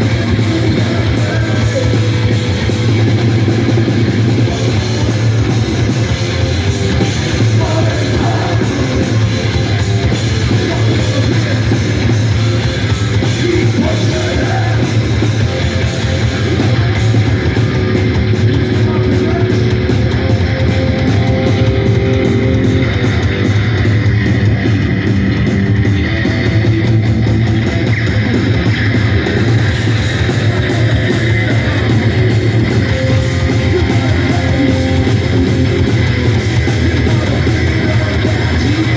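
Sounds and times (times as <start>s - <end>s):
distorted electric guitar: 0.0s - 38.9s
live rock band playing: 0.0s - 38.9s.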